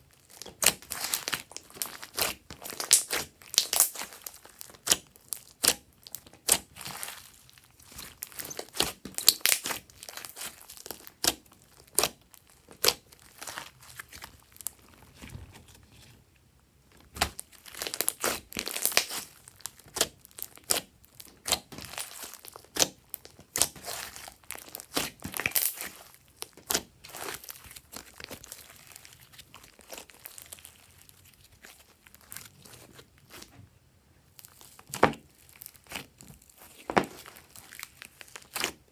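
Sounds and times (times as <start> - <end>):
slime squished by hand: 0.2 - 15.6, 17.0 - 33.5, 34.4 - 38.9.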